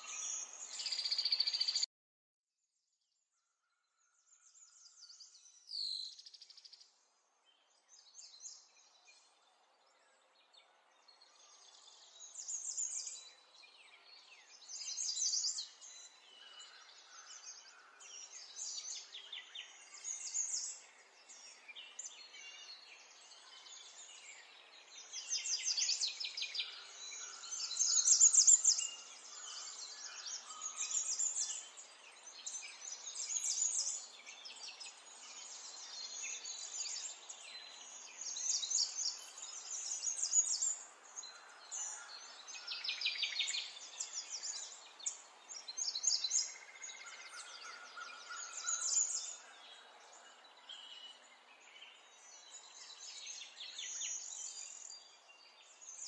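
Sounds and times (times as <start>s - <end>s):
small birds chirping and trilling: 0.0s - 1.9s, 3.1s - 56.0s.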